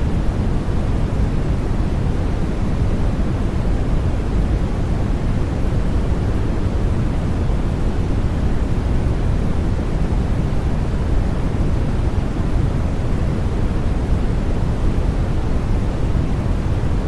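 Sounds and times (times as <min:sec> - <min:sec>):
low white noise hiss: 0:00.0 - 0:17.0.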